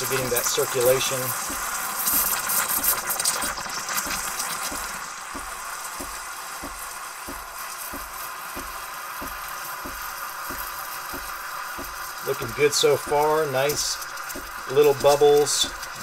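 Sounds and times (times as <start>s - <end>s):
steam wand hissing: 0.0s - 16.0s.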